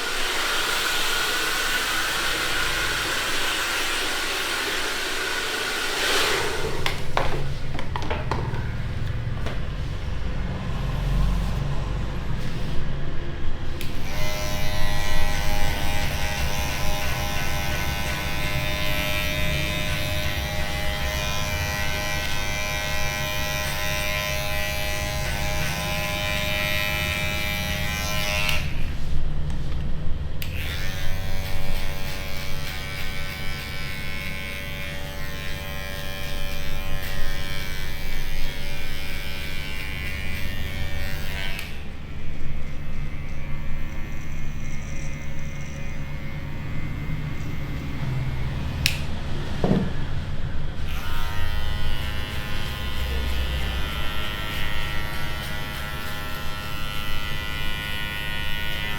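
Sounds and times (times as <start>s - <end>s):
electric hair clippers buzzing: 0.0s - 9.6s, 13.7s - 29.6s, 30.3s - 49.9s, 50.8s - 58.9s.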